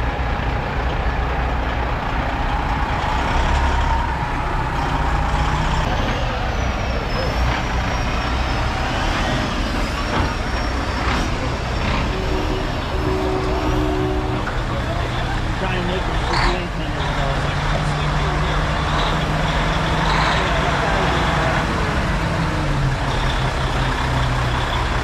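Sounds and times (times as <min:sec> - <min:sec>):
diesel truck engines rumbling: 0:00.0 - 0:25.0.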